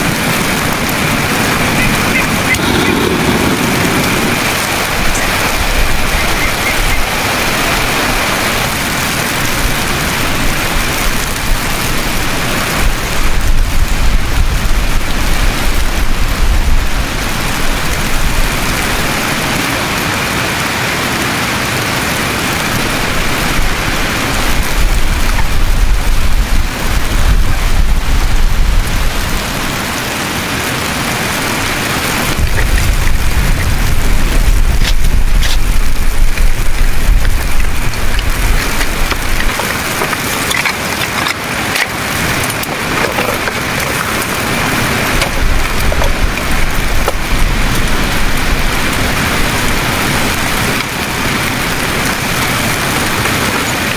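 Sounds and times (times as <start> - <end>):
wind gusts on microphone: 0.0 - 21.0, 21.7 - 53.9
rain hiss and patter: 0.0 - 53.9.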